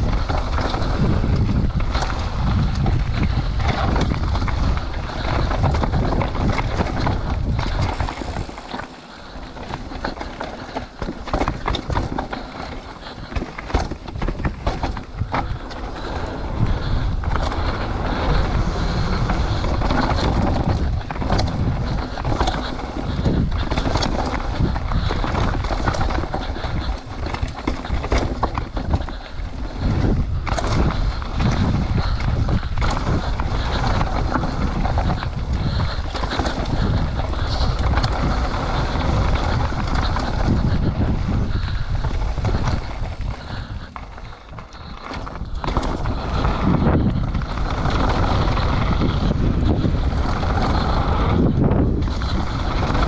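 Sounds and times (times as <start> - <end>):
bike clattering over bumps: 0.0 - 53.0
bike tyre noise: 0.0 - 53.0
wind rushing on microphone: 0.0 - 53.0.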